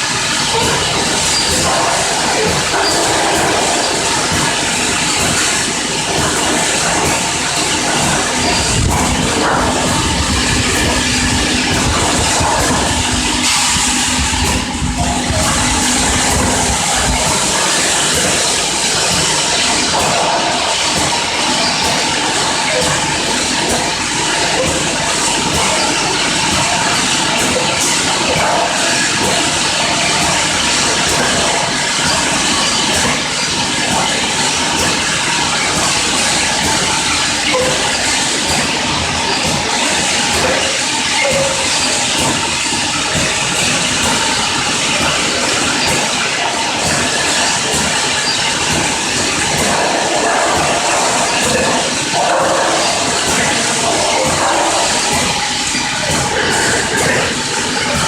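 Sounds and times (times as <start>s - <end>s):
filling machine running: 0.0s - 58.0s
steady hum: 0.0s - 58.0s.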